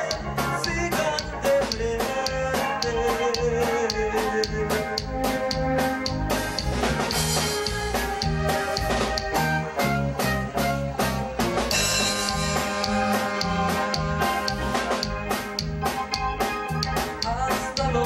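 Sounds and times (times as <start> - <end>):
bass guitar notes: 0.0 - 18.0
drum beat: 0.0 - 18.0
electric guitar: 0.0 - 18.0.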